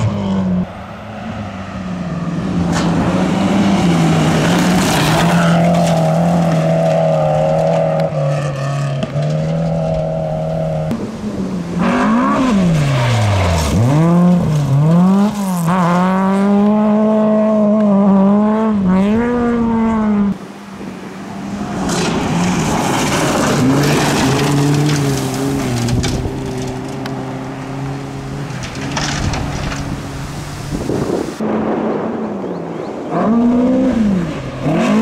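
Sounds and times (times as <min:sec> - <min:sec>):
gravel under tyres: 0:00.0 - 0:35.0
rally car engine revving: 0:02.1 - 0:20.4, 0:21.4 - 0:31.4, 0:33.1 - 0:35.0.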